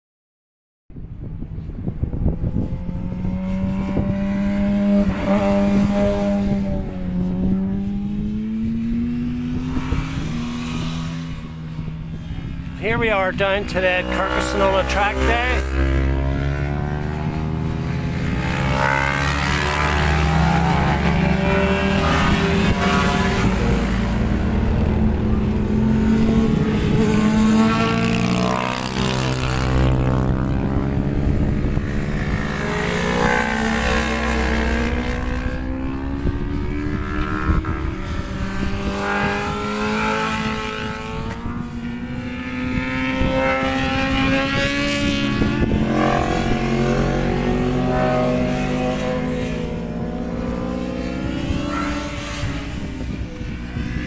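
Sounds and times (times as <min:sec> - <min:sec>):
racing motorcycle engines: 0:01.0 - 0:54.0.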